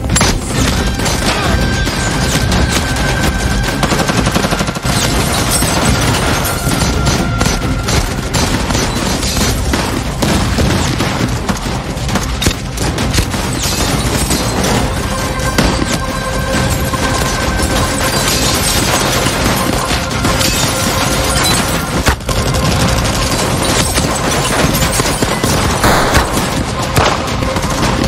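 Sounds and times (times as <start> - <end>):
background music: 0.0 - 28.0
rapid gunfire: 0.0 - 28.0.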